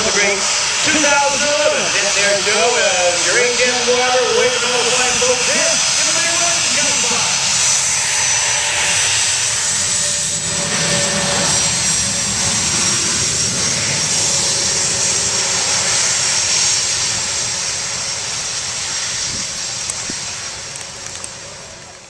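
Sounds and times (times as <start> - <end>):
high-pitched engine tones: 0.0 - 22.0
jet engines running: 0.0 - 22.0.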